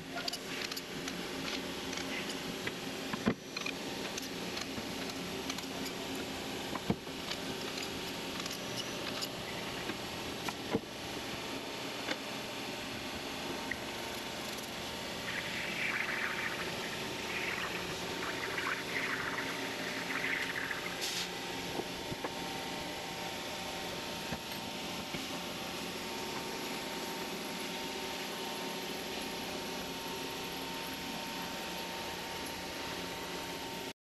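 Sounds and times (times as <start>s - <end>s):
machine shop hum: 0.1s - 28.4s.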